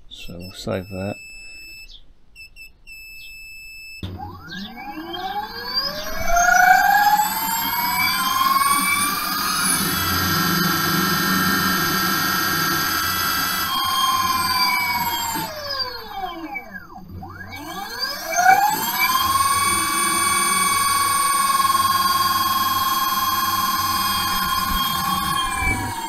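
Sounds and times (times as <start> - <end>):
electric motor whine: 4.0 - 26.0.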